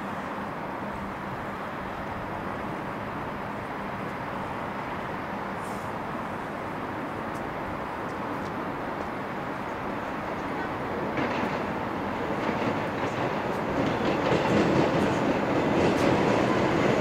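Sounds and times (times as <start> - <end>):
passenger train approaching: 0.0 - 17.0.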